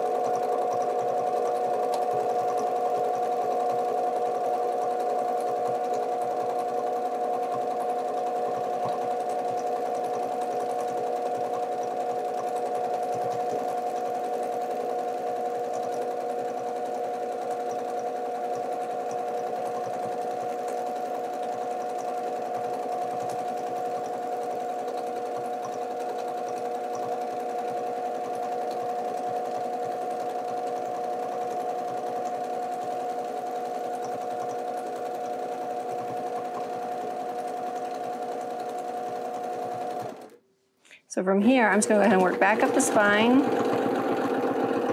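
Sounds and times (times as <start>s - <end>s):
sewing machine stitching: 0.0s - 40.4s, 41.4s - 44.9s.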